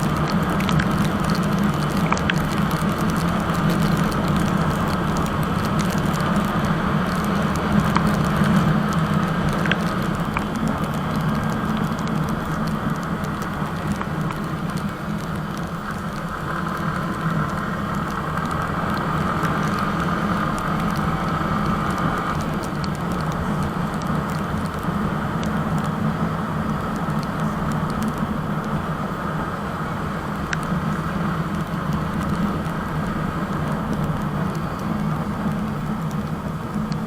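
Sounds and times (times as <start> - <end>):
motorcycle engine drone: 0.0 - 37.0
wind rush on microphone: 0.0 - 37.0.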